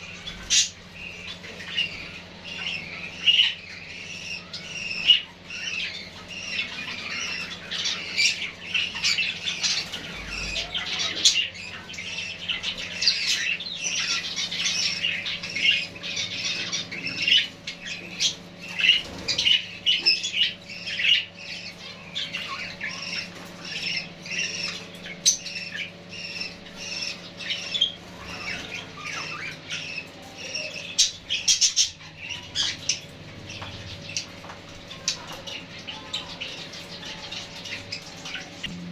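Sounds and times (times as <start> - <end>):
finches calling: 0.0 - 38.7
faint steady hum: 0.0 - 38.9.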